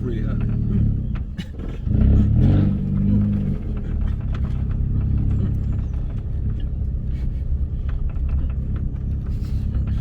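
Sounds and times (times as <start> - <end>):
car engine at low revs: 0.0 - 10.0
car knocks and rattles: 0.0 - 10.0.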